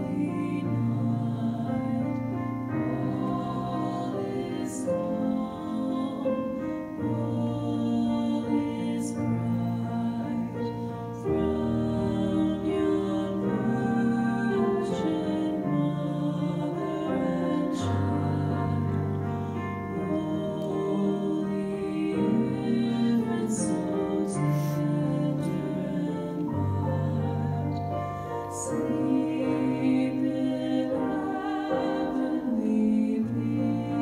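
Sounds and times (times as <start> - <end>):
soft sustained chords: 0.0 - 34.0
voices singing: 0.0 - 34.0.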